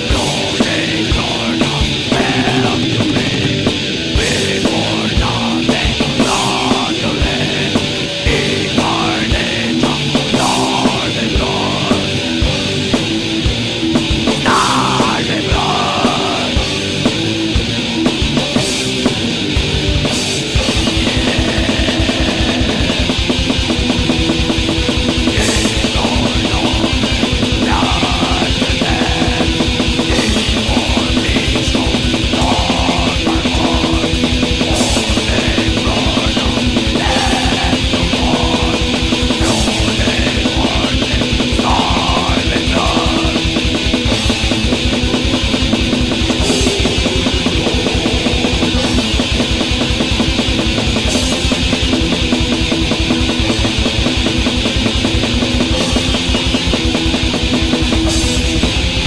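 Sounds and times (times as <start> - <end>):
black metal song: 0.0 - 59.0
electric guitars: 0.0 - 59.0
fast dense drumming: 0.0 - 59.0.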